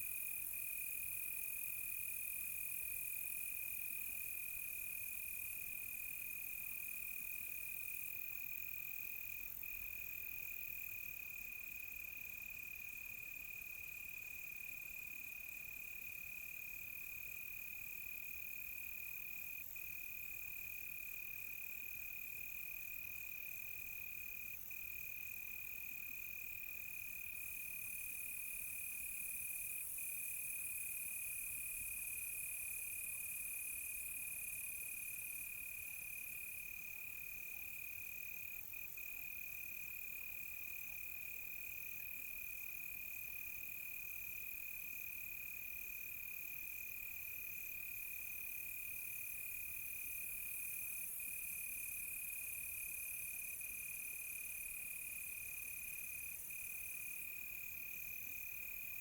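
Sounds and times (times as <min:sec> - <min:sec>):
faint pulsing cricket chirp: 0:00.0 - 0:59.0.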